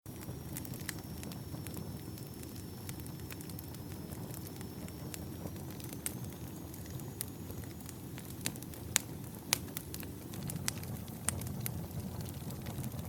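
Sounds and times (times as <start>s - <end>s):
fire crackling and popping: 0.1s - 13.0s
low fire rumble: 0.1s - 13.0s.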